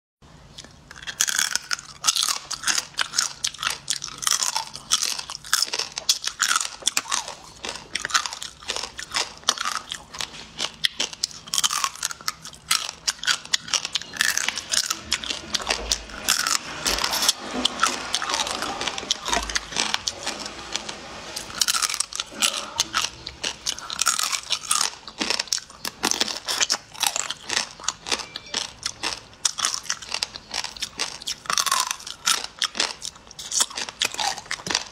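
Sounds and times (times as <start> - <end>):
wet chewing: 0.5 - 34.9.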